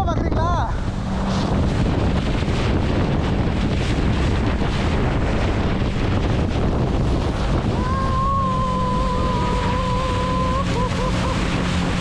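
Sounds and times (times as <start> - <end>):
outboard motor running: 0.0 - 12.0
wind buffeting microphone: 0.0 - 12.0
spray rushing off hull: 0.6 - 12.0.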